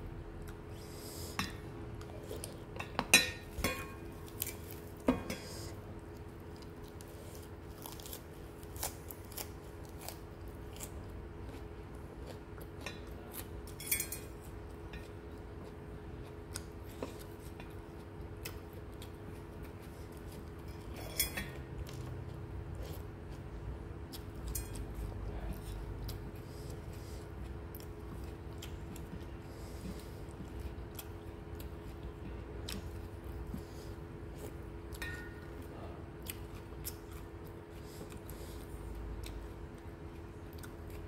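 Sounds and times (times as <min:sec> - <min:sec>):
steady low hum: 0:00.0 - 0:41.0
chewing: 0:04.2 - 0:23.5, 0:24.1 - 0:41.0.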